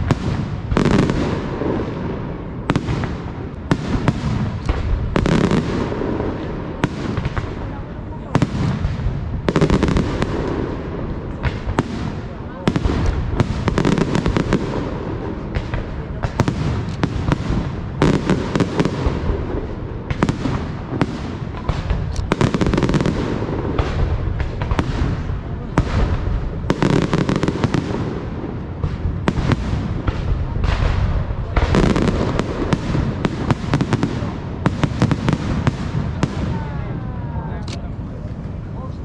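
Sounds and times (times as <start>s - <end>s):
fireworks bangs and crackling: 0.0s - 39.0s.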